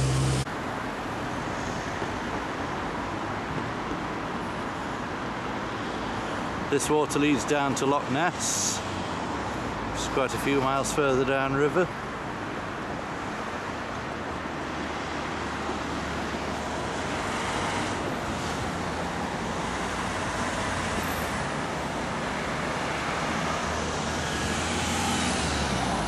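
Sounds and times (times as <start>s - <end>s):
cars passing on street: 0.0s - 26.0s.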